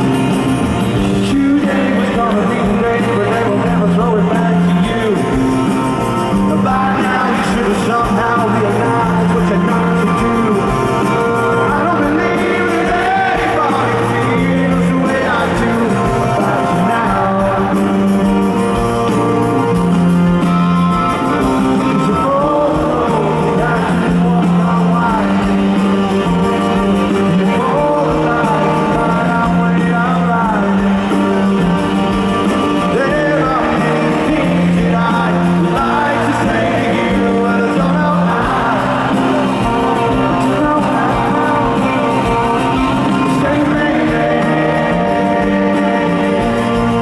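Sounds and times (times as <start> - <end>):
live rock band playing: 0.0 - 47.0
man singing lead vocal: 1.0 - 19.6, 21.2 - 47.0.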